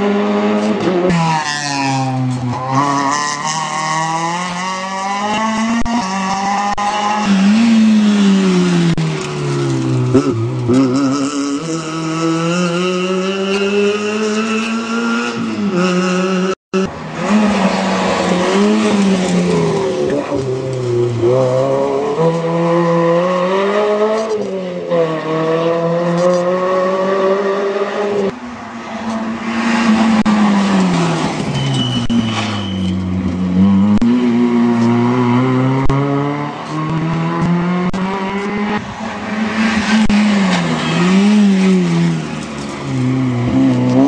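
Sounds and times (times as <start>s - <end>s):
rally car engines revving: 0.0s - 44.0s.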